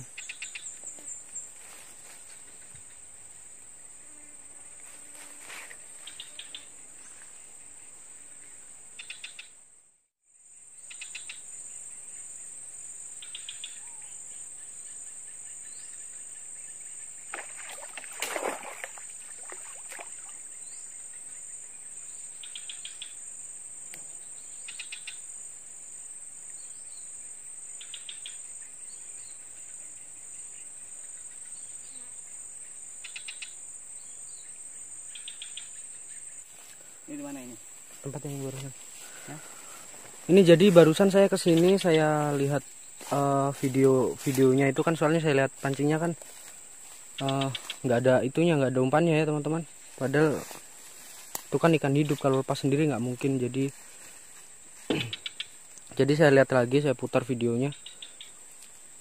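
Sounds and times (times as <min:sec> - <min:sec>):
crickets chirping: 0:00.0 - 0:59.0
rapid ticking insect calls: 0:00.0 - 0:59.0.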